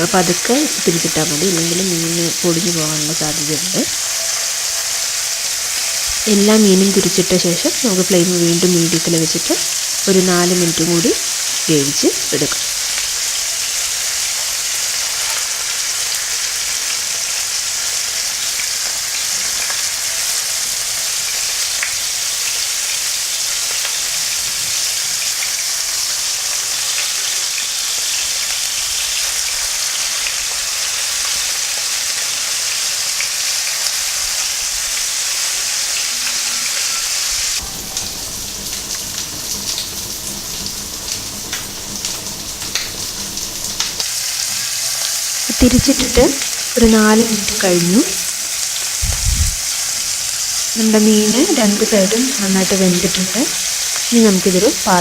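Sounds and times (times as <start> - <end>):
fish sizzling in oil: 0.0 - 55.0.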